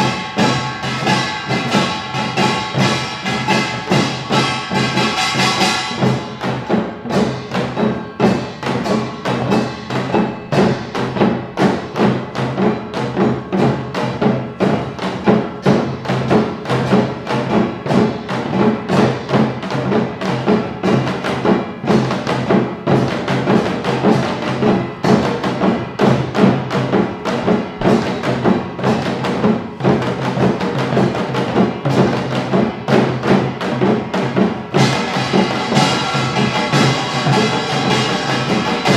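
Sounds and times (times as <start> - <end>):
drums beating fast rhythm: 0.0 - 38.9
small gongs: 0.0 - 38.9.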